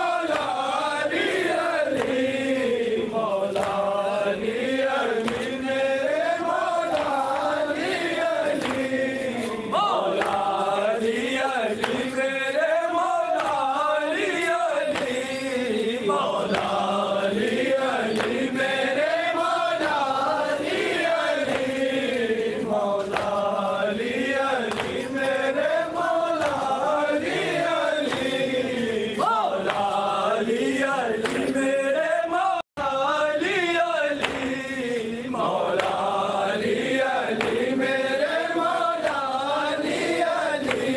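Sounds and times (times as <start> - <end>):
men chanting a lament: 0.0 - 40.9.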